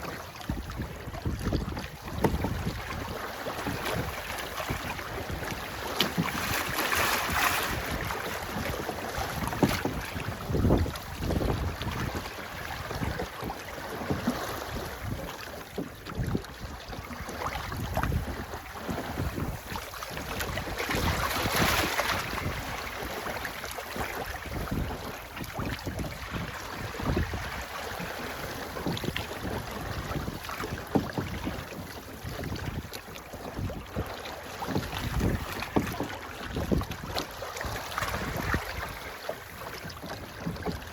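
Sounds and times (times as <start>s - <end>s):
wind buffeting microphone: 0.0s - 23.4s, 24.0s - 40.9s
water rushing along hull: 0.0s - 40.9s.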